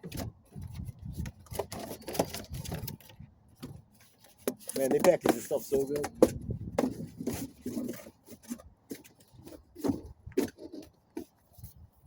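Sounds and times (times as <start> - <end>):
packaging rubbing and scraping: 0.0 - 11.9.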